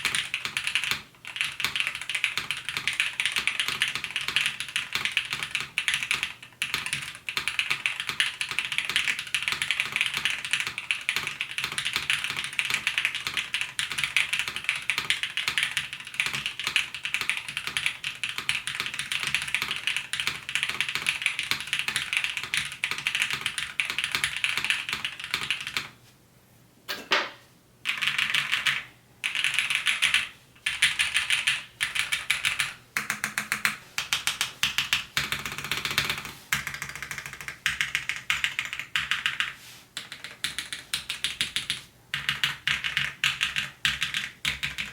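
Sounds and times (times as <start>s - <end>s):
fast mechanical keyboard typing: 0.0s - 25.9s, 27.9s - 44.9s.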